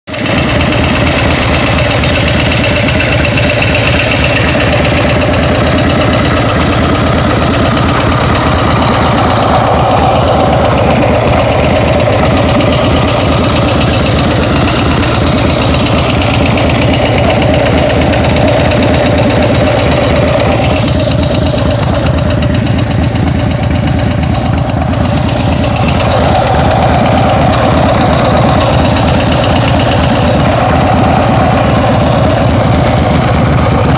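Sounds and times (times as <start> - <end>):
engine idling with fast ticking: 0.0 - 33.9.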